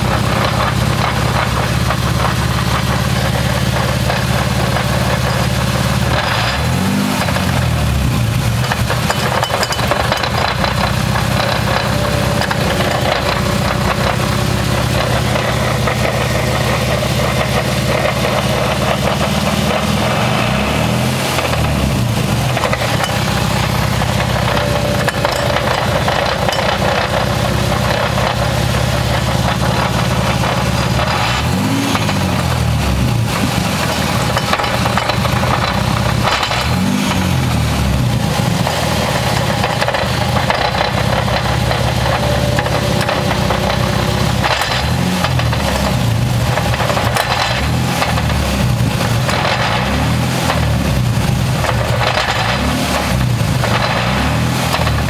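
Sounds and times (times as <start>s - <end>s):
car engine running: 0.0s - 55.0s
loud drivetrain noise: 0.0s - 55.0s.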